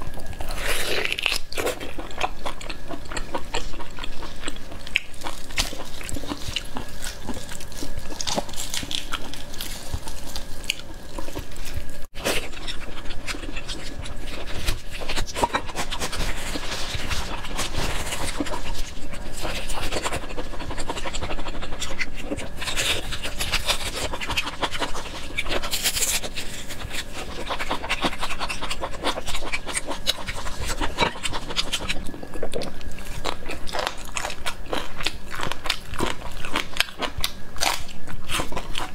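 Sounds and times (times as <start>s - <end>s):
chewing and gnawing meat: 0.0s - 38.9s.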